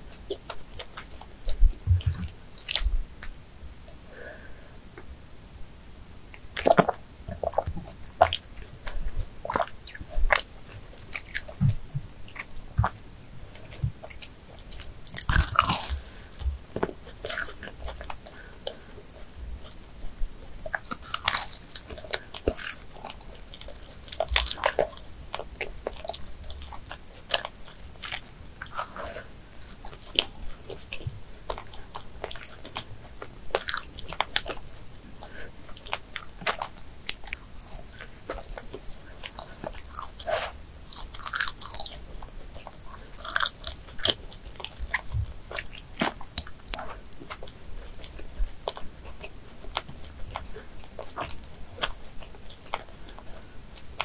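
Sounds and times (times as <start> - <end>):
mouth clicks and smacks: 0.0 - 3.8, 6.3 - 54.0
chewing doughnut: 0.0 - 4.6, 6.3 - 54.0.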